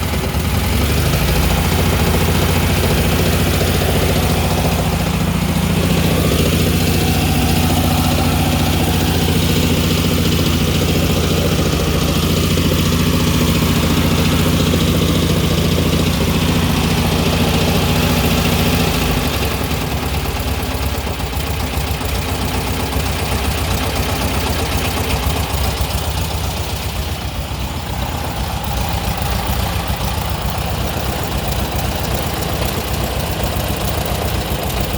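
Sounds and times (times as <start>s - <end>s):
car engine running: 0.0s - 34.9s
engine knocking: 0.0s - 34.9s.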